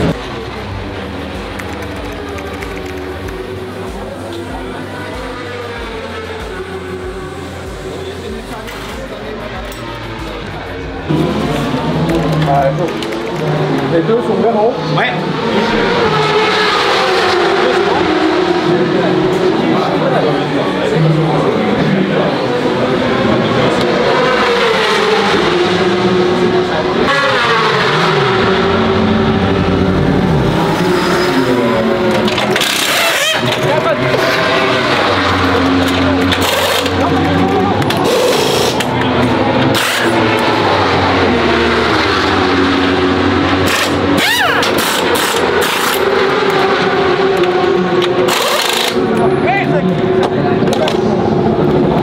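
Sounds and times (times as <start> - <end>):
racing motorcycle engines revving: 0.0 - 52.0.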